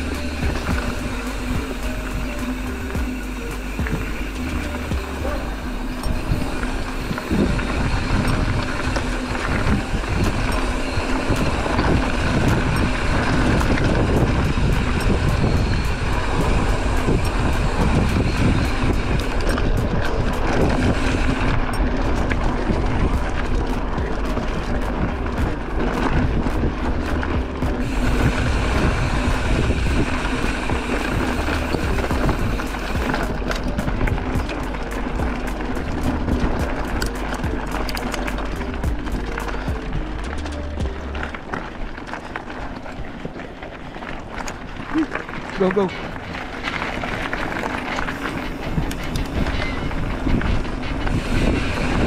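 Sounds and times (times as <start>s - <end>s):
bicycle tyres rolling on rough trail: 0.0s - 52.0s
bike rattles and clicks: 0.0s - 52.0s
wind buffeting microphone: 0.0s - 52.0s.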